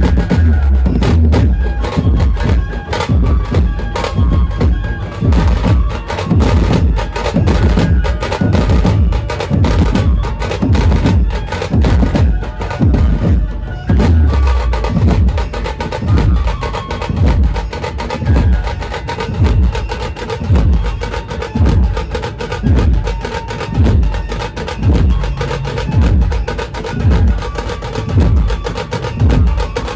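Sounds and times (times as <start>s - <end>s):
street band drumming: 0.0s - 29.9s.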